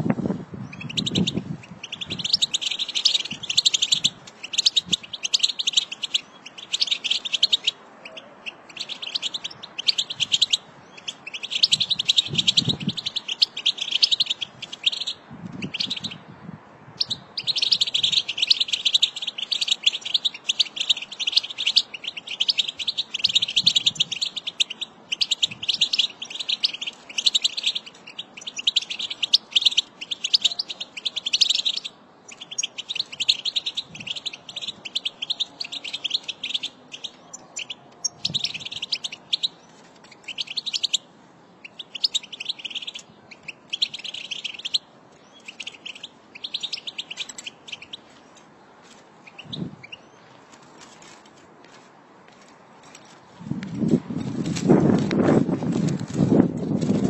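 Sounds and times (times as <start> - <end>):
bird twittering and chirping: 0.5 - 16.3, 17.0 - 48.5, 49.2 - 50.4.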